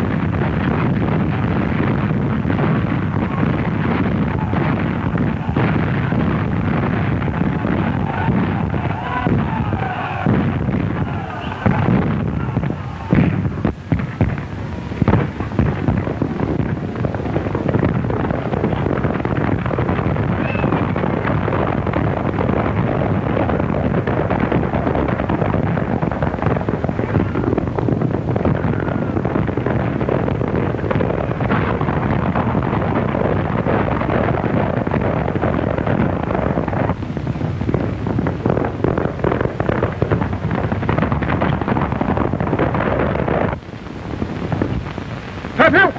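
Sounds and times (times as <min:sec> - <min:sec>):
film soundtrack crackle: 0:00.0 - 0:45.9
sharp cracks like gunshots: 0:00.0 - 0:45.9.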